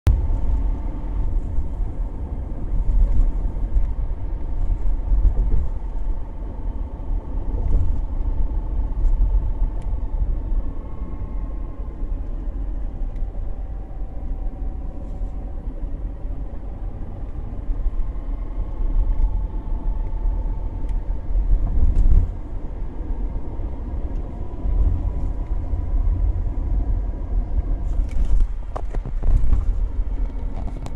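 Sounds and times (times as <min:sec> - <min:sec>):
car driving low rumble: 0:00.0 - 0:30.9
faint transmission whine: 0:00.1 - 0:30.9.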